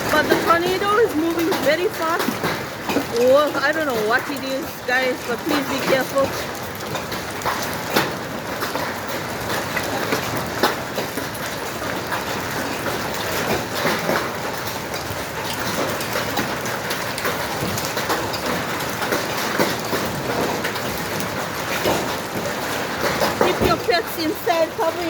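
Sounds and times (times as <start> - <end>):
hailstones striking hard surfaces: 0.0 - 25.0.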